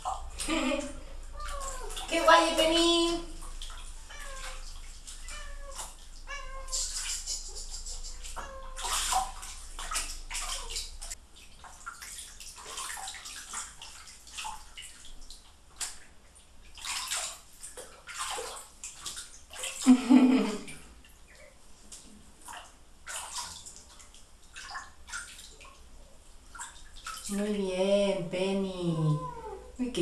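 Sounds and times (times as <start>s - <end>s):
bathwater sloshing and splashing: 0.0s - 30.0s.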